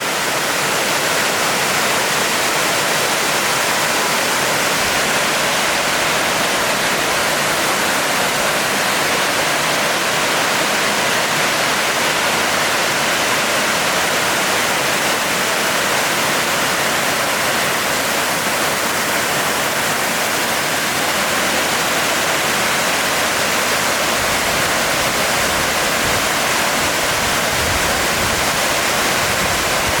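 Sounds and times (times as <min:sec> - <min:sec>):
waterfall pouring: 0:00.0 - 0:30.0.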